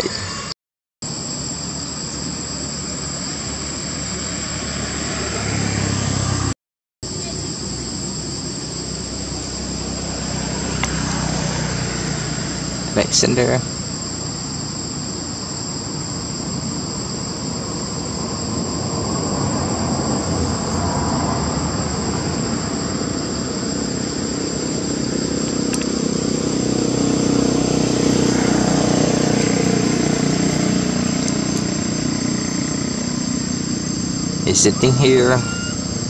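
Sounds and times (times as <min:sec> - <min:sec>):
insects droning: 0:00.0 - 0:36.0
vehicle engine: 0:00.0 - 0:36.0.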